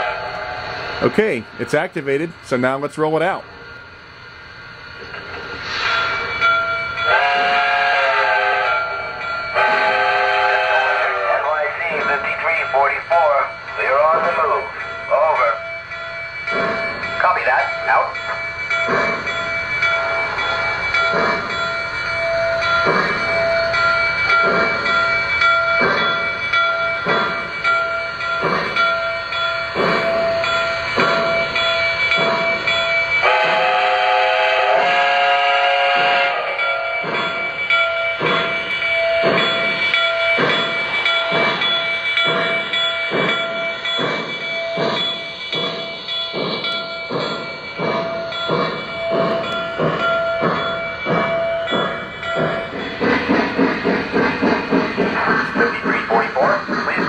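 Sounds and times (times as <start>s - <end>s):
model steam locomotive chuffing: 0.0s - 57.0s.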